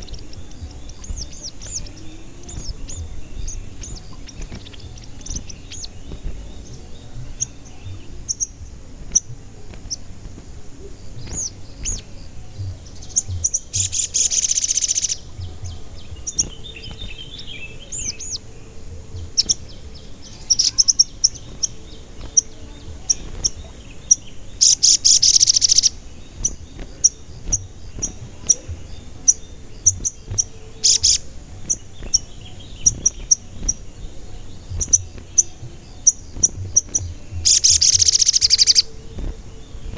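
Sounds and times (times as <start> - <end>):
bird chirping: 0.0 - 39.9
bird trill: 0.0 - 39.9.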